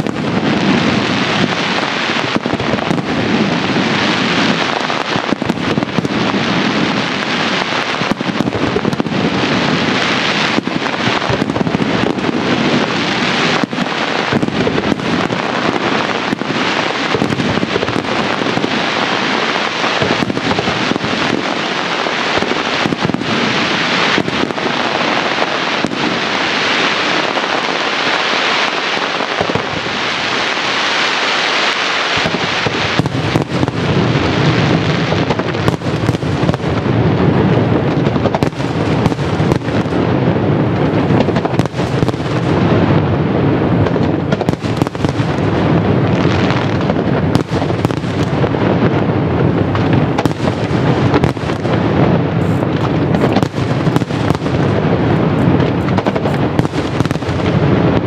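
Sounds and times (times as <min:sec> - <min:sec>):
deep fireworks booms: 0:00.0 - 0:58.0
fireworks bangs and crackles: 0:00.0 - 0:58.0.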